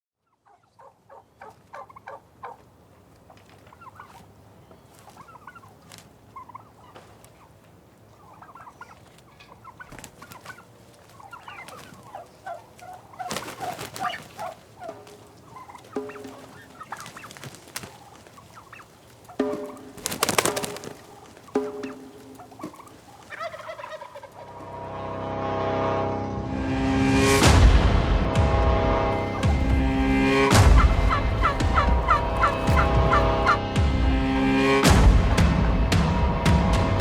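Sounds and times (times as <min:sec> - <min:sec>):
turkeys gobbling: 0:00.2 - 0:24.6, 0:29.2 - 0:37.0.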